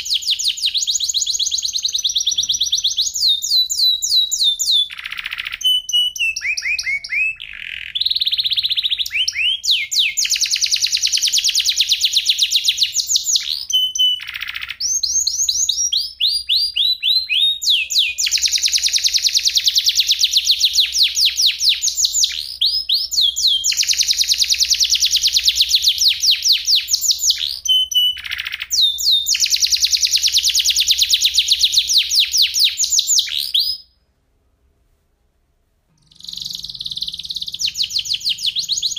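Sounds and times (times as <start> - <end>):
canary singing: 0.0 - 34.0, 36.0 - 38.9.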